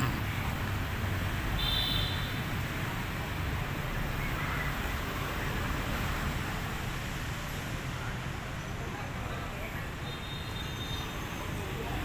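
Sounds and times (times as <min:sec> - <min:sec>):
outdoor rumble and hiss: 0:00.0 - 0:12.0.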